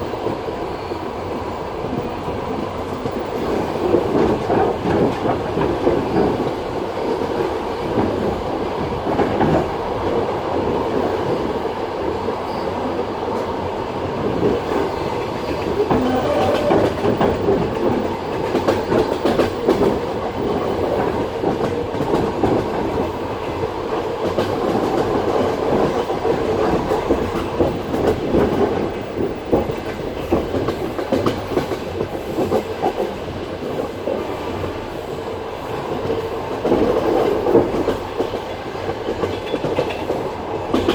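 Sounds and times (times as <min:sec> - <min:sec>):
train running gear rumble: 0:00.0 - 0:40.9.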